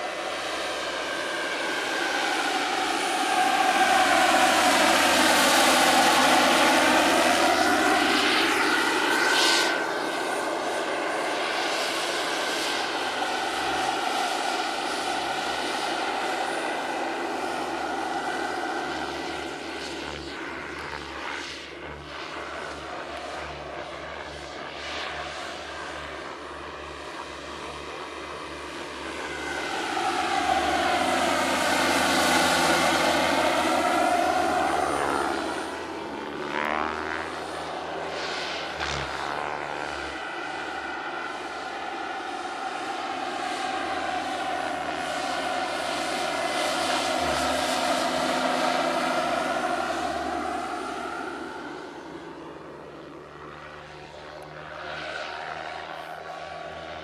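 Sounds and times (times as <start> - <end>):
model helicopter turbine whine: 0.0 - 57.0.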